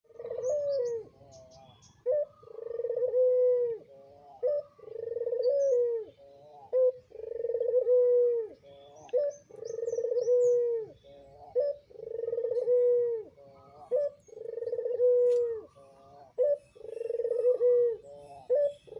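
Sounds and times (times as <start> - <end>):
dove cooing: 0.1 - 18.9.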